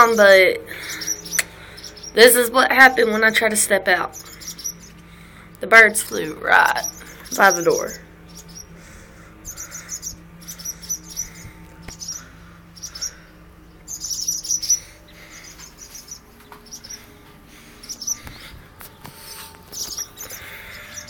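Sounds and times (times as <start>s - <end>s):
birds chirping sharply: 0.0s - 21.0s.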